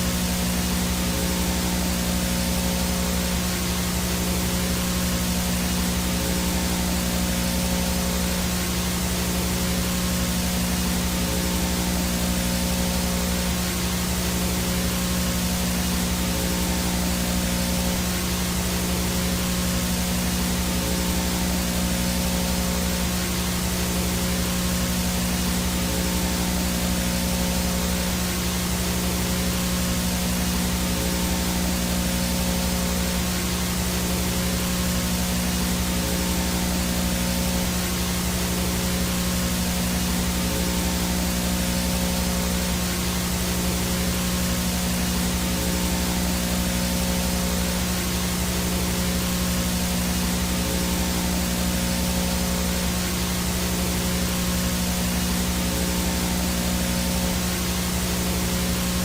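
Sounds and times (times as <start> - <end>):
faint high whine: 0.0 - 59.0
low buzzing hum: 0.0 - 59.0
static hiss: 0.0 - 59.0.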